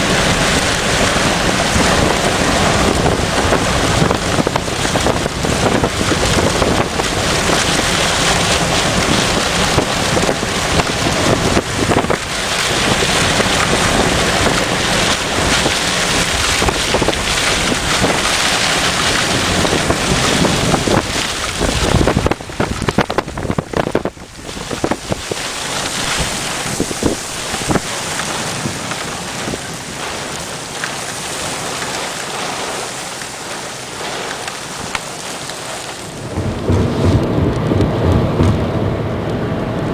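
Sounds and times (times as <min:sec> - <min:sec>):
heavy rain pouring: 0:00.0 - 0:39.9
wind buffeting microphone: 0:00.0 - 0:39.9.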